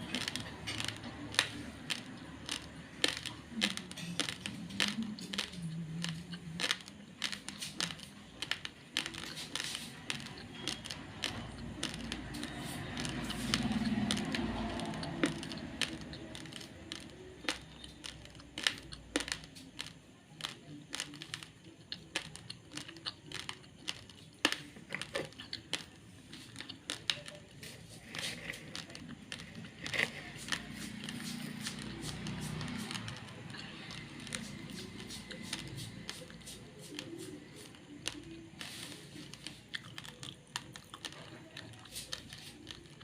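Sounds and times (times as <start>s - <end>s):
rice grains crunching: 0.0s - 43.0s.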